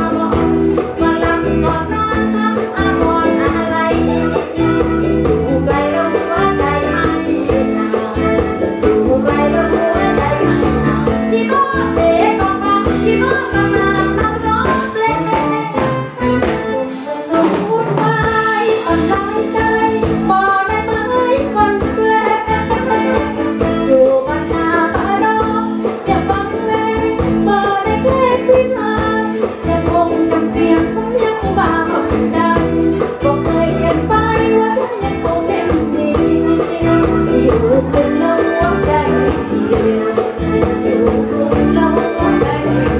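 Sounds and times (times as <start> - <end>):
women singing: 0.0 - 15.7, 17.3 - 42.9
amplified instrumental music: 0.0 - 42.9.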